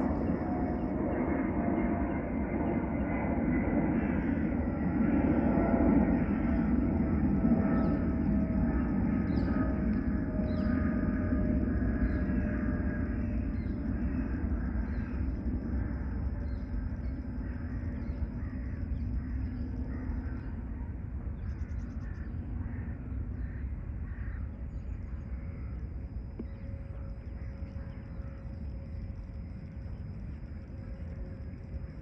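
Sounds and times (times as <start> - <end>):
jet engines low rumble: 0.0 - 32.0.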